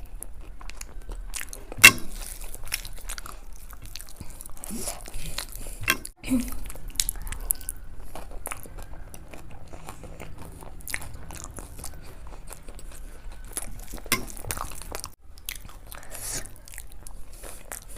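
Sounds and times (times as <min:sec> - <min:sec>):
chewing fried food: 0:00.0 - 0:17.9.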